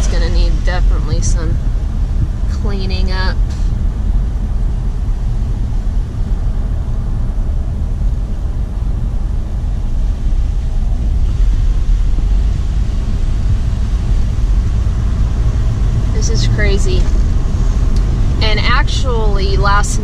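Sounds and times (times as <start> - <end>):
car cabin road rumble: 0.0 - 20.0.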